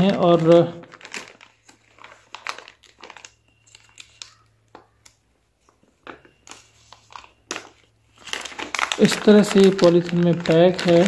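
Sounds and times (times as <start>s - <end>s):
plastic bag crinkling: 0.0s - 5.1s, 6.0s - 11.0s.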